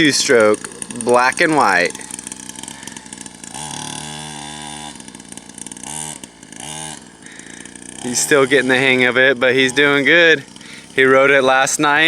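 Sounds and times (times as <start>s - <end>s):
two-stroke dirt bike engine revving: 0.0s - 12.0s.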